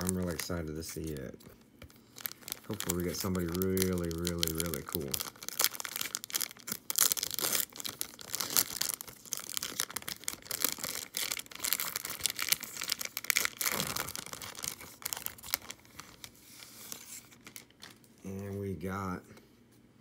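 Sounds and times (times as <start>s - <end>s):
foil wrapper tearing and crumpling: 0.0s - 18.1s.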